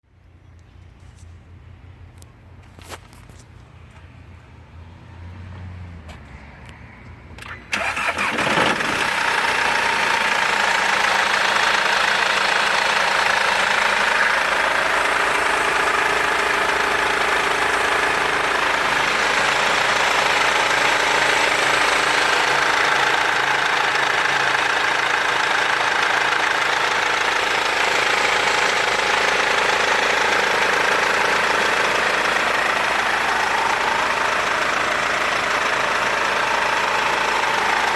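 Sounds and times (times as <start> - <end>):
car engine starting and idling: 5.9 - 37.9.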